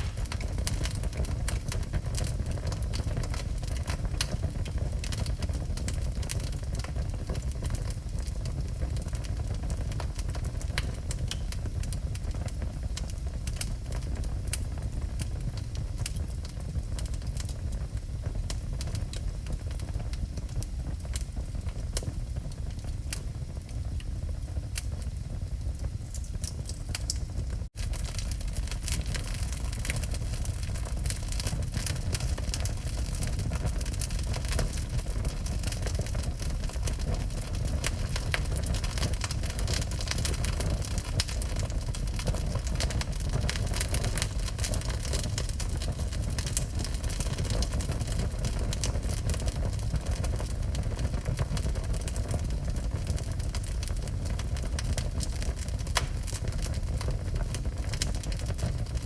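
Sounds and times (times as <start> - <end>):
fire low rumble: 0.0 - 59.0
wood fire crackling and popping: 0.0 - 59.0.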